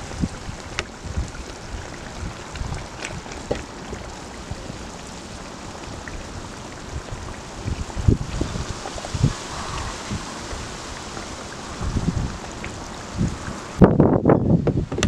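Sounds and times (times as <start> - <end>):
outdoor hiss: 0.0 - 13.9
wind rumbling on microphone: 0.0 - 15.0.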